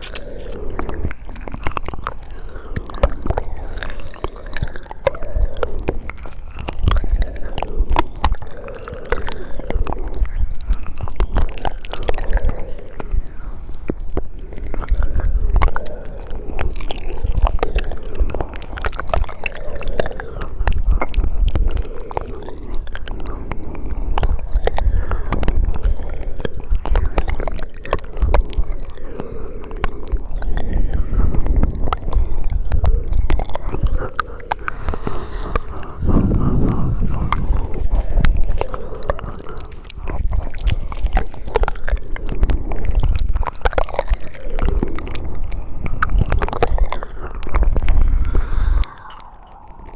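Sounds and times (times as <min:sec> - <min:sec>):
lip smacks: 0:00.0 - 0:49.9
tongue clicks: 0:00.0 - 0:49.9.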